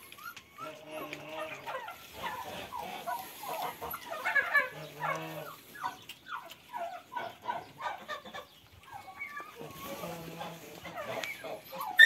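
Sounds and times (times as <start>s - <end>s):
puppies whimpering and squealing: 0.0s - 12.0s.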